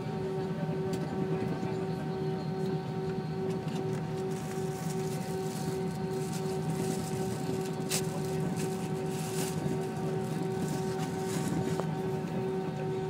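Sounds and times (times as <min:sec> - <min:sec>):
jet cabin engine hum: 0:00.0 - 0:13.0.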